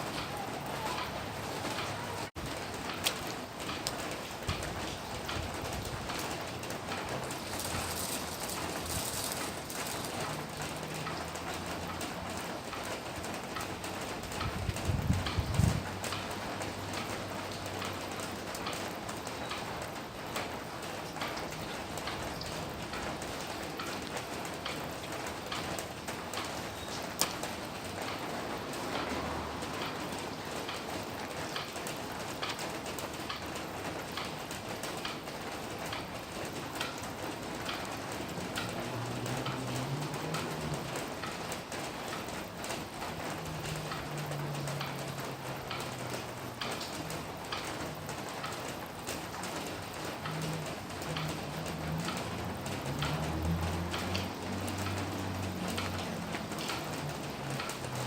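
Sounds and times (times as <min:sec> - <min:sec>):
raindrops ticking: 0:00.0 - 0:58.0
steady rain falling: 0:00.0 - 0:58.0.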